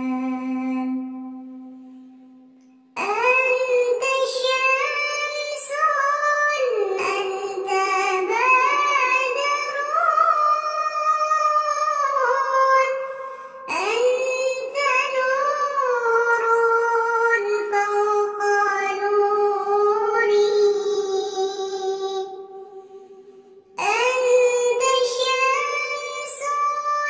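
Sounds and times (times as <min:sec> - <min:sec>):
high child-like singing voice: 0:03.0 - 0:13.1, 0:13.7 - 0:22.9, 0:23.8 - 0:27.0.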